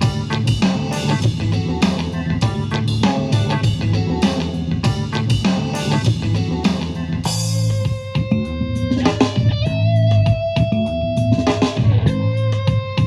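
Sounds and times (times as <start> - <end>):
rock song through portable speaker: 0.0 - 13.0.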